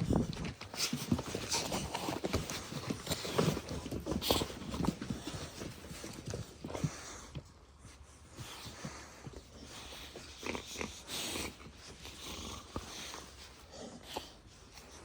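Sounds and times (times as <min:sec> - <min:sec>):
dogs tapping and scuffling: 0:00.0 - 0:15.0.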